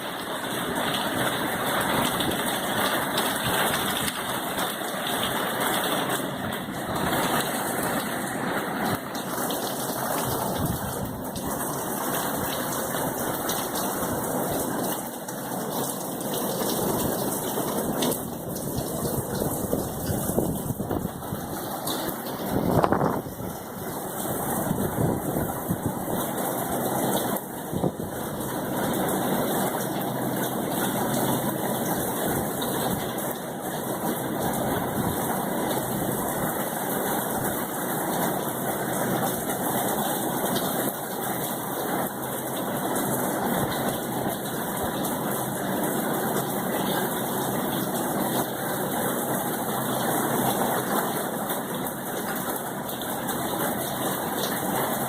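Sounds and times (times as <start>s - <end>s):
heavy rain rushing hiss: 0.6s - 55.0s.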